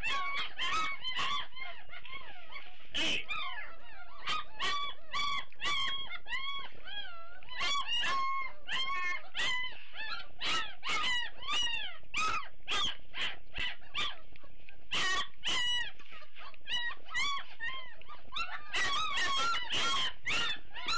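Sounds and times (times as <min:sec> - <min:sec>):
puppies whining and yelping: 0:00.0 - 0:20.9.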